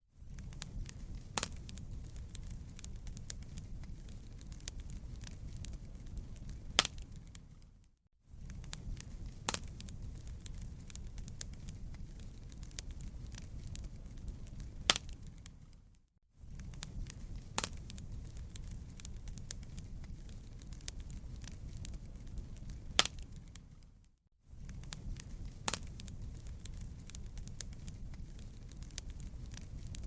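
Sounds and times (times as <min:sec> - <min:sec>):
wood fire crackling and popping: 0:00.2 - 0:30.0.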